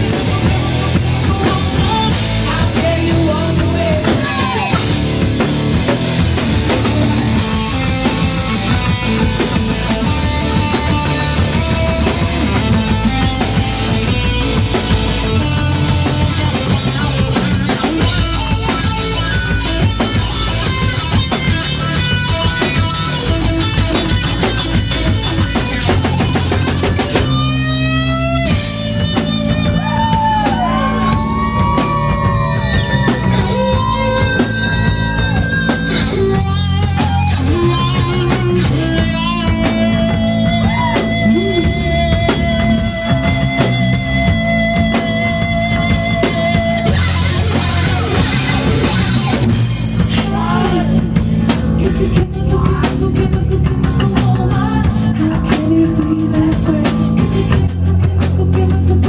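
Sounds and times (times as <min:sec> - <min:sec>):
electric guitar lead notes: 0:00.0 - 0:59.0
live rock band: 0:00.0 - 0:59.0.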